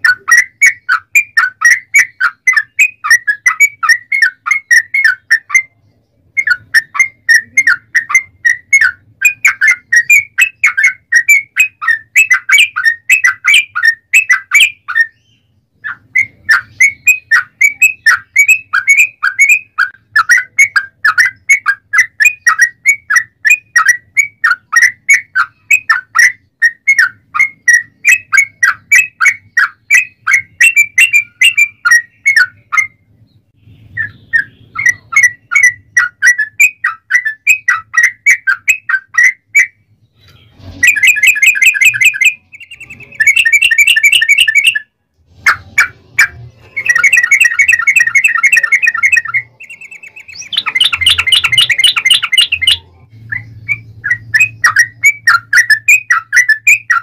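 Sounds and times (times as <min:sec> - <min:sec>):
bird singing rolling chirps: 0:00.0 - 0:57.0.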